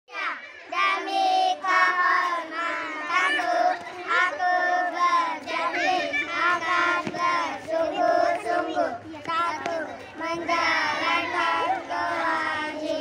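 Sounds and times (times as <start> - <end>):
boys chanting in unison: 0.1 - 13.0.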